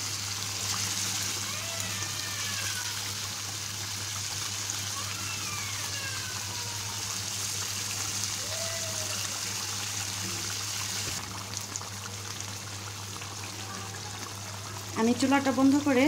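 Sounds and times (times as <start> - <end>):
curry bubbling and sputtering: 0.0 - 16.0.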